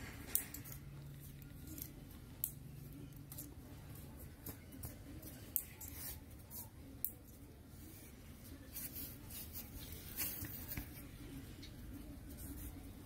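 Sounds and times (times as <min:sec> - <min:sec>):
puppy claws scratching on tiles: 0:00.3 - 0:13.0.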